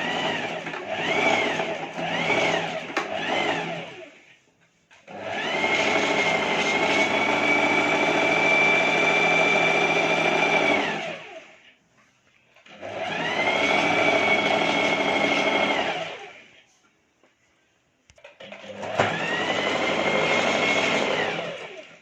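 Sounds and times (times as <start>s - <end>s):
electric sewing machine running: 0.0s - 4.2s, 5.1s - 11.5s, 12.7s - 16.5s, 18.5s - 22.0s.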